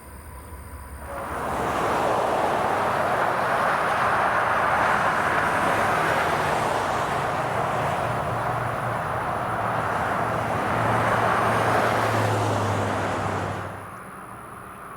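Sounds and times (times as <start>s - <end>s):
freight train wheels on rails: 1.0s - 14.0s.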